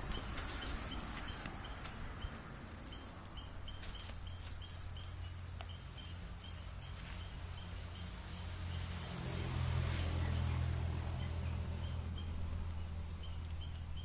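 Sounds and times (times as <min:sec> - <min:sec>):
bird chirping: 0:00.0 - 0:09.0, 0:10.0 - 0:14.0.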